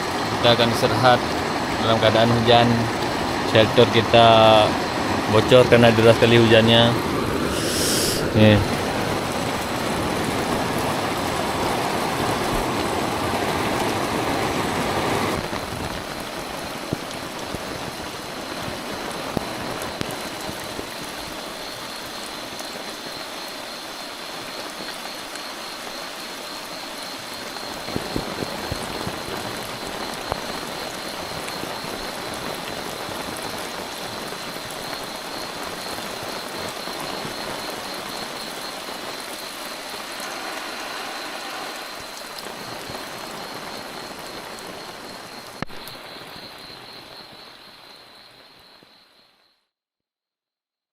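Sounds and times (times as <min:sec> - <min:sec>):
heavy rain on a shelter: 0:00.0 - 0:48.9.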